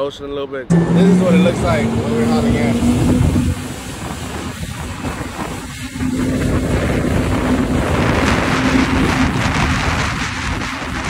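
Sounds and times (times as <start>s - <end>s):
jet ski engine running: 0.7s - 11.0s
rushing water: 0.7s - 11.0s
wind buffeting microphone: 0.7s - 11.0s.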